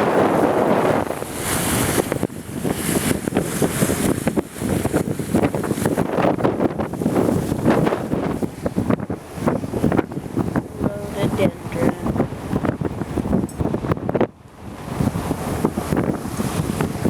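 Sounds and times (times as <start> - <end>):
choppy water rushing: 0.0 - 17.0
wind buffeting microphone: 0.0 - 17.0.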